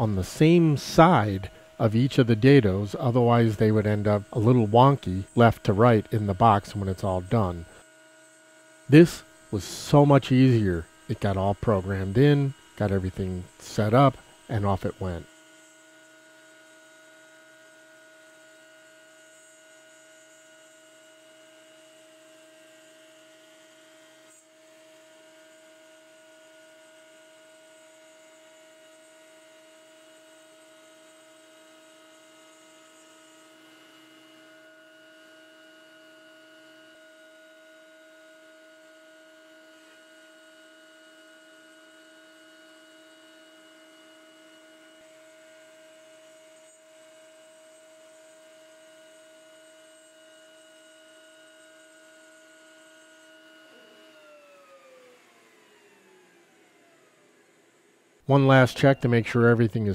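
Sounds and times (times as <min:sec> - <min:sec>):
router motor whine: 0:00.0 - 0:59.6.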